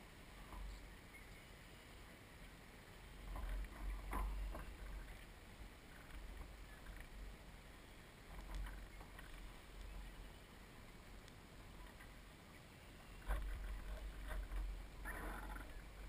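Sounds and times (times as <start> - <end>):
water lapping against a hull: 2.5 - 10.3, 10.9 - 16.0.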